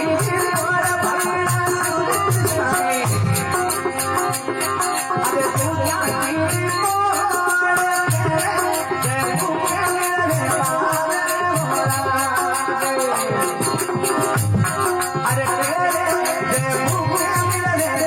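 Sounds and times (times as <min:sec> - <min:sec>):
jingling percussion: 0:00.0 - 0:18.0.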